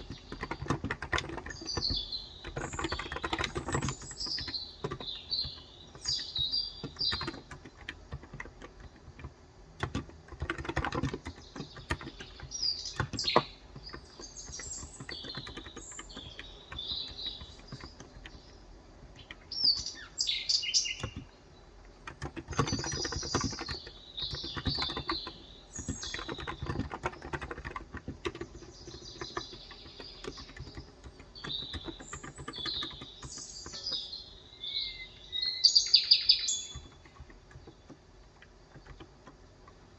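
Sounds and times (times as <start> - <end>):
typing on a keyboard: 0.0 - 34.8, 35.9 - 39.9
small birds chirping: 0.0 - 39.9.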